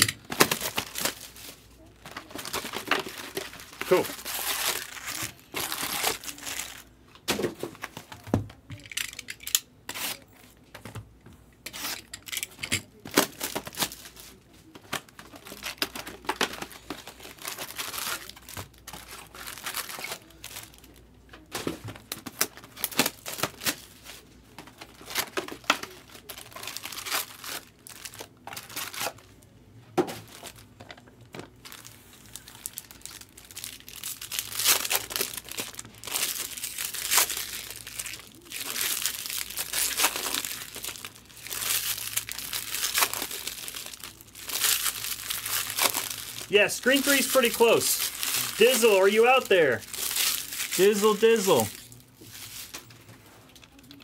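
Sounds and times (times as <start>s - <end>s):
wrapper tearing: 0.0s - 6.9s, 11.7s - 29.3s, 31.6s - 52.9s
foil packs crinkling and rustling: 0.0s - 8.3s, 12.9s - 29.4s, 30.2s - 52.9s.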